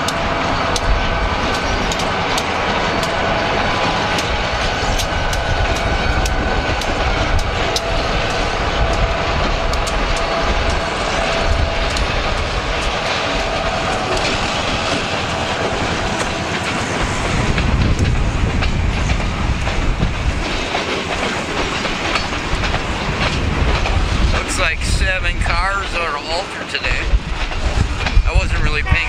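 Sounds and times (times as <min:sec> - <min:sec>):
train wheels clacking over rail joints: 0:00.0 - 0:28.9
diesel locomotive passing: 0:00.0 - 0:29.0.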